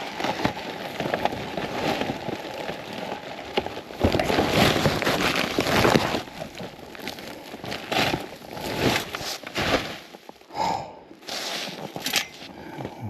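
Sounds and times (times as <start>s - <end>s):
crunching in deep snow: 0.0s - 12.5s.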